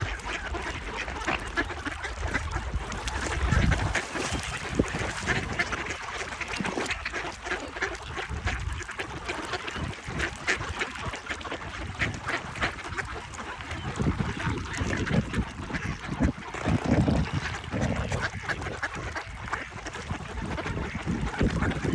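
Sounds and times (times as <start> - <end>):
swans and ducks calling: 0.0 - 21.9.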